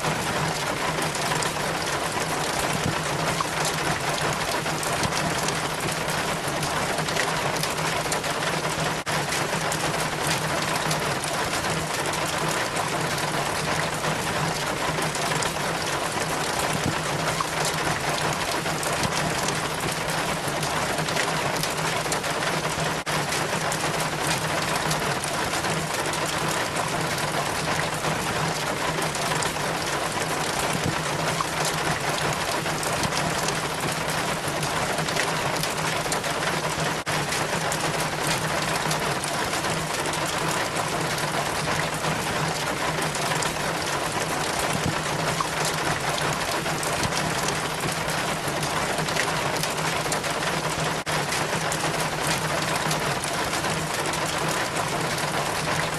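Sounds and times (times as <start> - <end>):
rainwater trickling down rain chain: 0.0 - 55.9.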